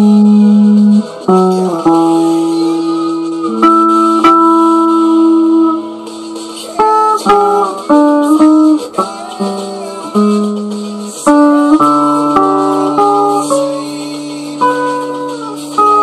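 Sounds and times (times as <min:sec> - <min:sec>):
guitar picking chords and notes: 0:00.0 - 0:16.0.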